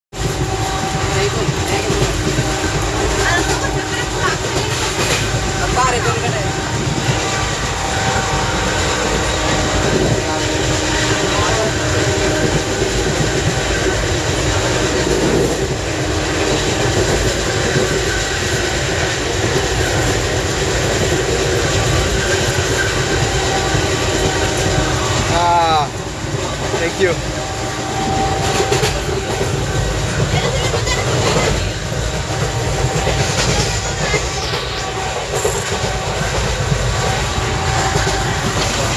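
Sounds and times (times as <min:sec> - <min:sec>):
train coach rumbling: 0:00.1 - 0:38.9.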